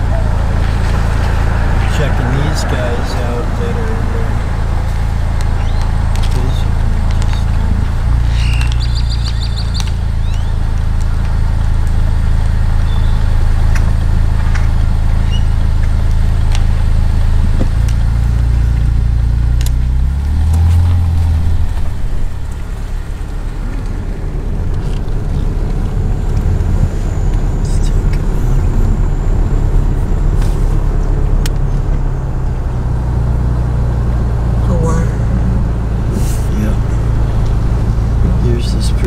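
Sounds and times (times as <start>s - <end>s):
car engine humming: 0.0s - 39.0s
road noise: 0.0s - 39.0s.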